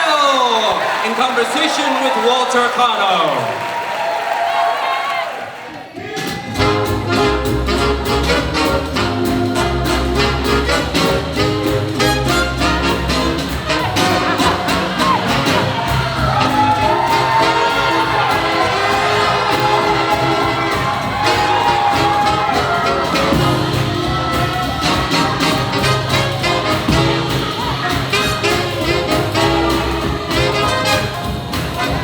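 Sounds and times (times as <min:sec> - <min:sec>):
crowd noise: 0:00.0 - 0:32.0
live swing jazz band: 0:06.3 - 0:32.0.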